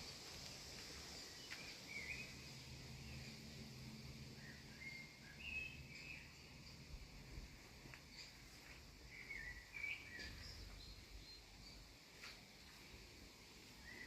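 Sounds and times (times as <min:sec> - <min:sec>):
songbirds chirping and trilling: 0:00.0 - 0:14.0
steady high hiss: 0:00.0 - 0:14.0.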